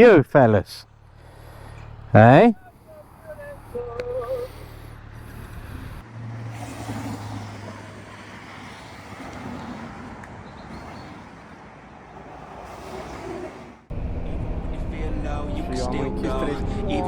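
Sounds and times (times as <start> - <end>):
rushing outdoor noise: 0.0 - 17.0
vehicle engine humming: 0.0 - 17.0.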